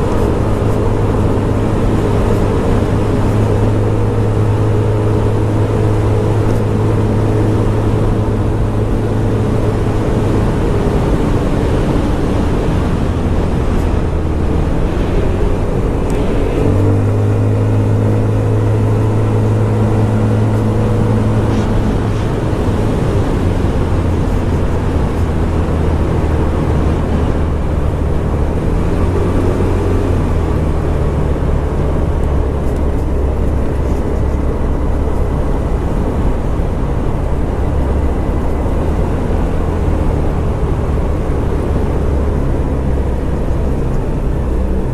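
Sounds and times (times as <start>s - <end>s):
scooter engine running: 0.0s - 44.9s
wind and road noise: 0.0s - 44.9s.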